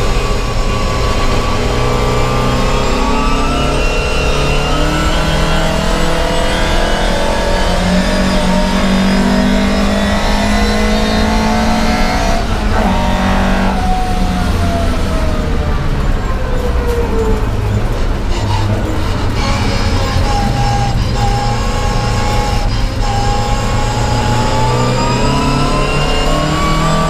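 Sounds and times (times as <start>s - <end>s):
car engine under load: 0.0s - 27.0s.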